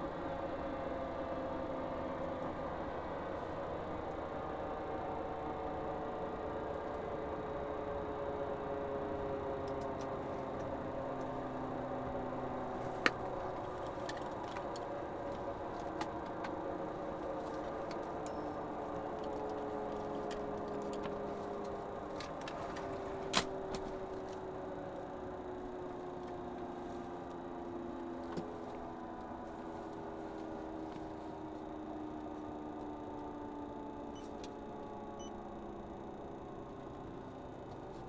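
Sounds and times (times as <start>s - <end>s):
helicopter whine: 0.0s - 38.0s.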